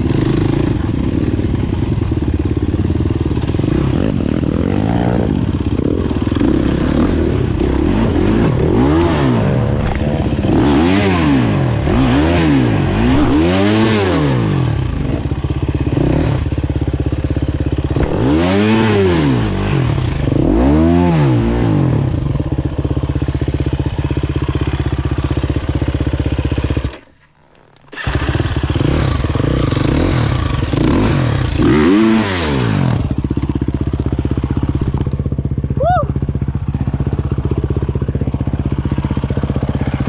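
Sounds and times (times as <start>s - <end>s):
dirt bike engine revving: 0.0s - 27.1s, 27.8s - 35.2s.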